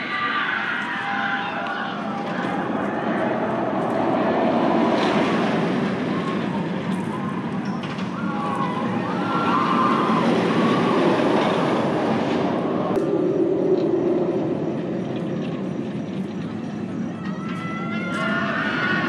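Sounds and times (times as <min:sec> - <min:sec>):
roller coaster wheels roaring on rail: 0:00.0 - 0:19.0.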